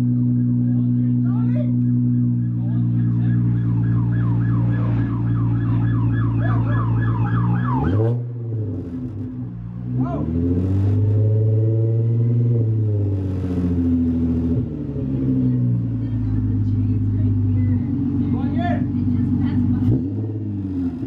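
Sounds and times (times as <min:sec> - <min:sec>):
car engine droning: 0:00.0 - 0:21.0.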